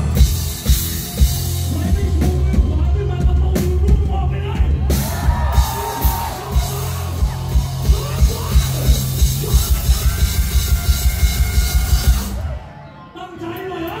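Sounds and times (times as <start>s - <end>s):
pounding drum beat: 0.0s - 12.5s
live rock band: 0.0s - 12.8s.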